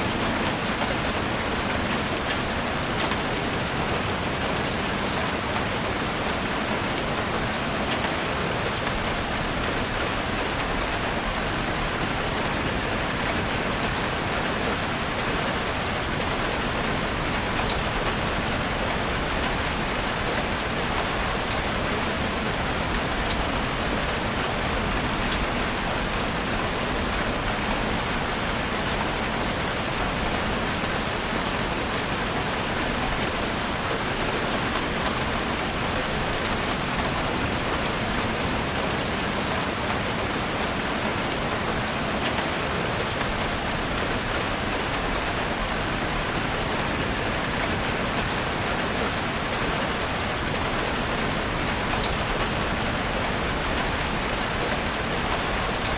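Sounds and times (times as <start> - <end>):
heavy rain on a roof: 0.0 - 55.9.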